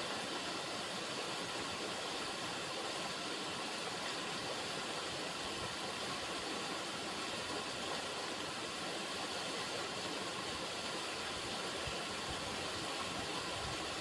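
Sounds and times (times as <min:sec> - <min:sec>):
river water running: 0:00.0 - 0:14.0.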